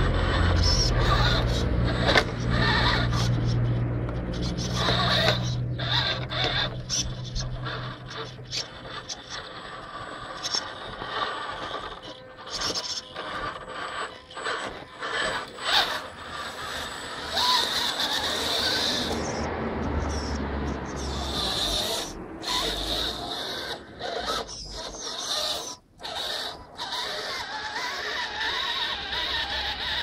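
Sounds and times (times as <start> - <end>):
clicks and scraping: 0.0 - 30.0
toy truck motor whining: 0.0 - 30.0.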